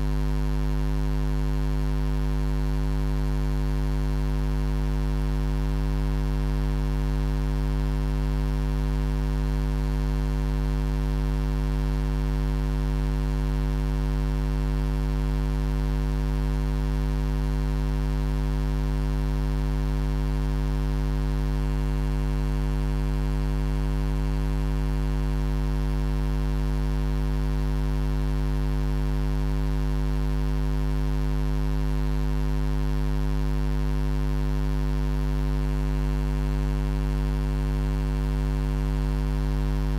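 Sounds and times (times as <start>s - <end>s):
low electrical hum with buzz: 0.0s - 16.6s, 17.2s - 39.9s.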